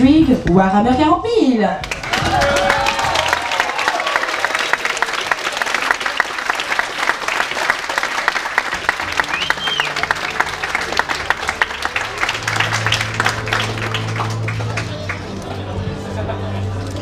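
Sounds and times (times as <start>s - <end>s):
audience clapping: 1.8s - 15.6s.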